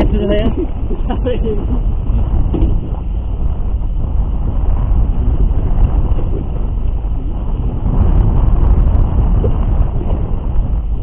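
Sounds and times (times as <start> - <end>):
boat low rumble at sea: 0.0 - 11.0.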